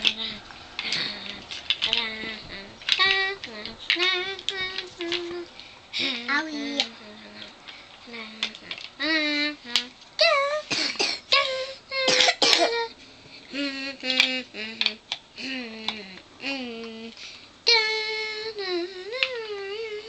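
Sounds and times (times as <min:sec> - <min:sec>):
boy humming and singing wordlessly: 0:00.0 - 0:20.0.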